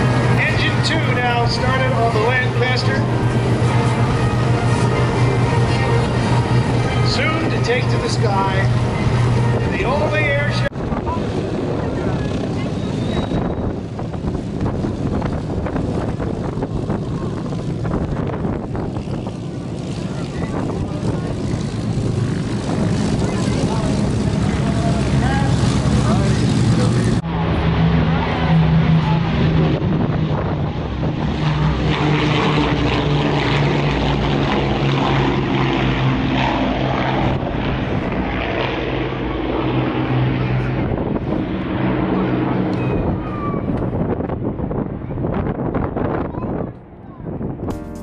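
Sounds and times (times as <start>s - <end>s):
wind noise on microphone: 0.0s - 27.3s, 28.4s - 48.0s
piston aircraft engines running: 0.0s - 48.0s.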